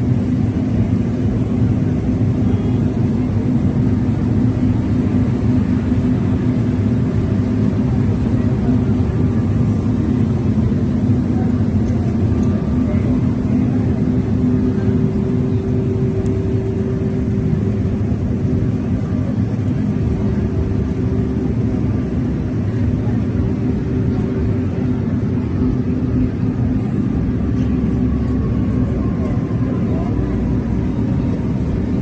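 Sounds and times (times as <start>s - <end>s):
engine-like hum: 0.0s - 32.0s
street traffic rumble: 0.0s - 32.0s.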